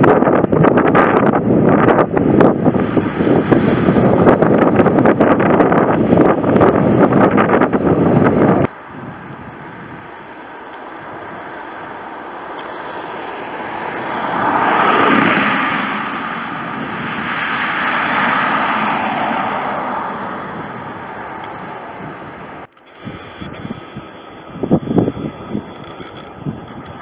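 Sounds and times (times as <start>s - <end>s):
jet airliner engines roaring: 0.0s - 27.0s.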